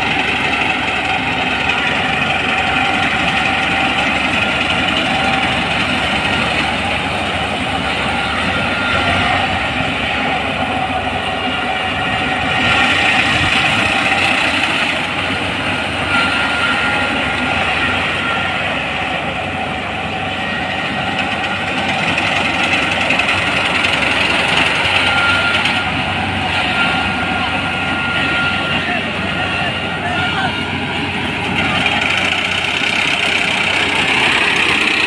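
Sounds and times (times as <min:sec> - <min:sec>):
combine harvester running: 0:00.0 - 0:35.0
faint high whine: 0:00.0 - 0:35.0.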